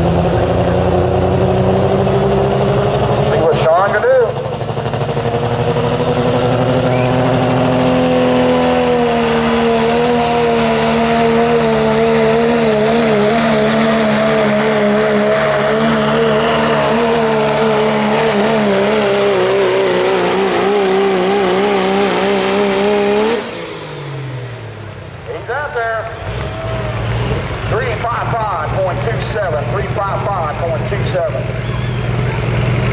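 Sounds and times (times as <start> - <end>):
diesel truck engine at high revs: 0.0 - 32.9
high engine whine: 0.0 - 32.9.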